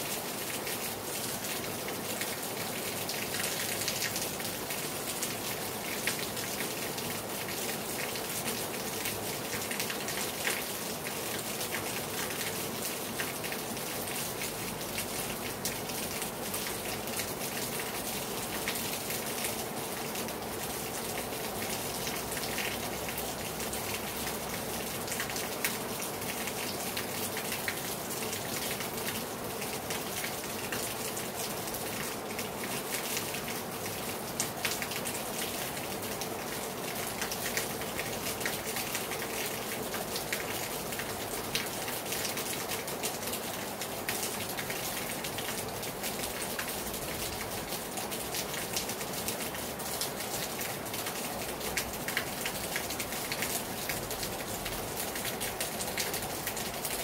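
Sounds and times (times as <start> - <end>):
raindrops pattering and splashing: 0.0 - 57.0.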